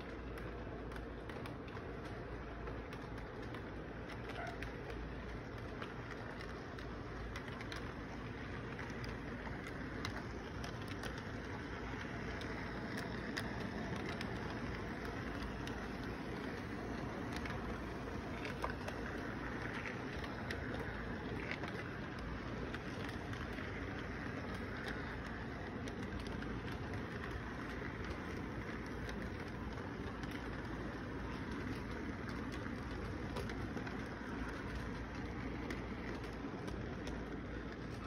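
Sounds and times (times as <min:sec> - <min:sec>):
model train motor and wheels rumbling: 0:00.0 - 0:38.0
small clicks of train on track: 0:00.0 - 0:38.0.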